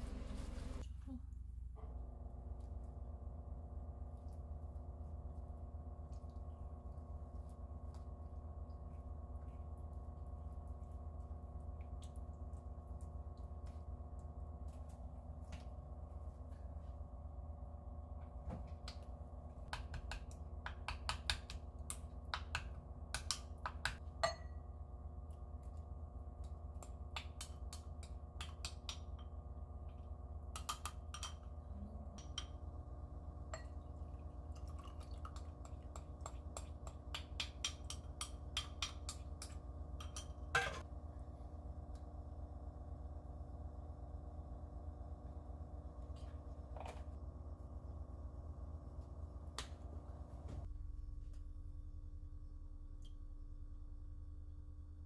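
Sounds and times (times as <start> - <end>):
appliance electrical hum: 0.0 - 55.0.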